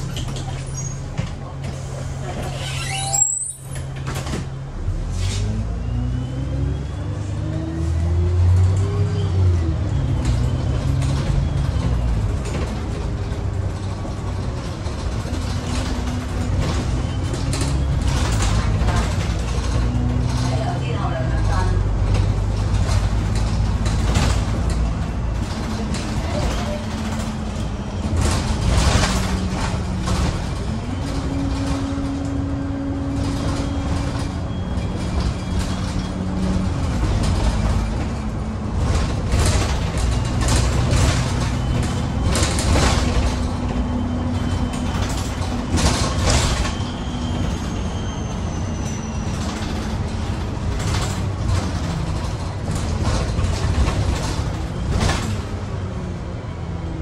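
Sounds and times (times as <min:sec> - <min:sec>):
bus body rattling: 0:00.0 - 0:57.0
bus diesel engine: 0:00.0 - 0:57.0
road noise: 0:00.0 - 0:57.0.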